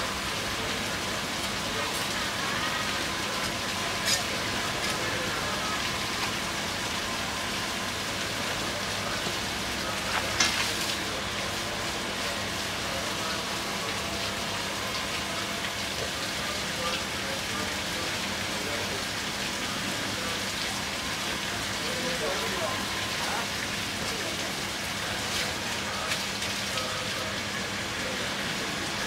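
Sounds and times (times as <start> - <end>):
faint voices: 0.0 - 29.0.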